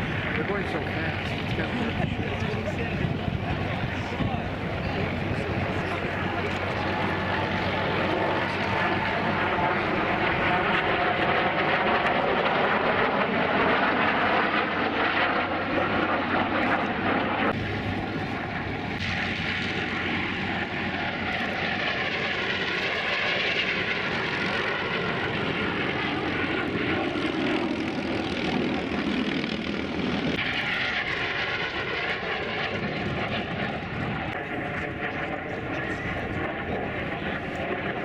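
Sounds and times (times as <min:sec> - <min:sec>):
jet engine rush and whine: 0:00.0 - 0:38.0.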